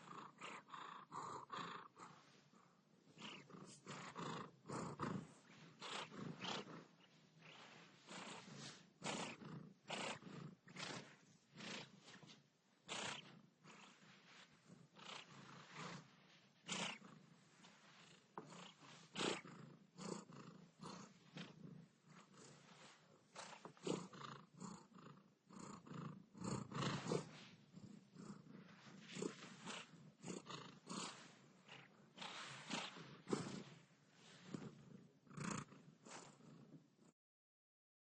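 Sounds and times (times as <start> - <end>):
cat purring: 0.0 - 37.1.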